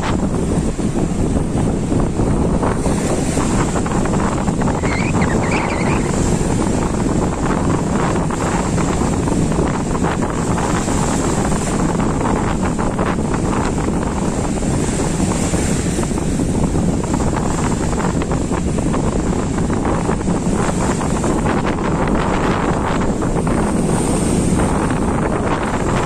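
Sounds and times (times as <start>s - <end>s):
sea waves washing: 0.0s - 26.0s
wind buffeting microphone: 0.0s - 26.0s.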